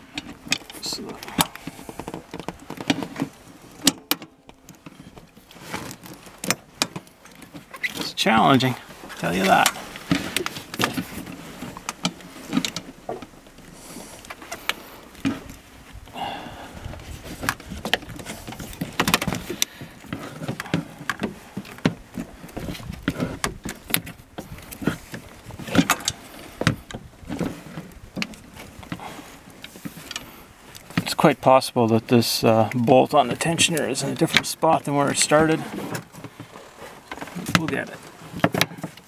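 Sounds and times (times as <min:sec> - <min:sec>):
handling noise: 0:00.0 - 0:39.0.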